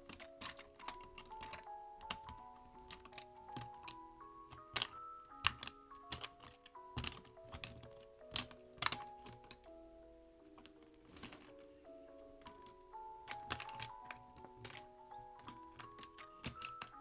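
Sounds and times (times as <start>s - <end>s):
mechanical keyboard clacks: 0.0s - 9.7s, 12.4s - 17.0s
soft background music: 0.0s - 17.0s.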